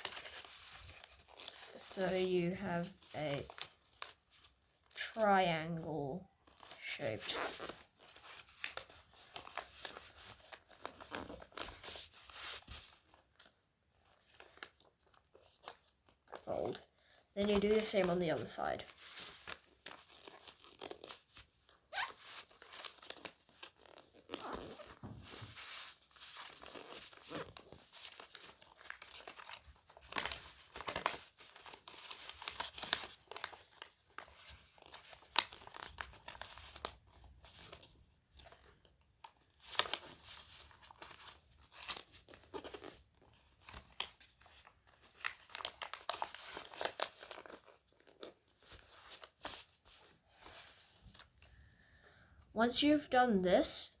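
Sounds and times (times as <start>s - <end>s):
paper crackles: 0.0s - 5.2s, 6.4s - 51.6s
paper rustling and crinkling: 0.0s - 5.2s, 6.4s - 51.8s.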